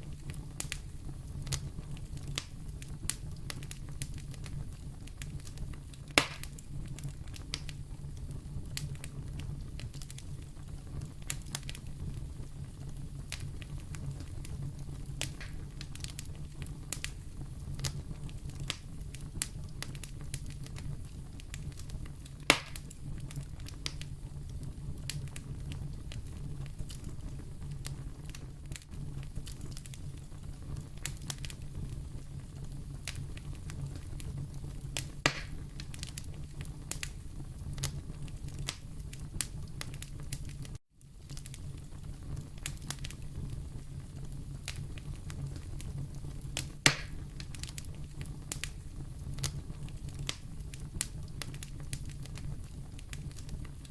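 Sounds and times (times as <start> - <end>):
fire crackling in fireplace: 0.0 - 53.9.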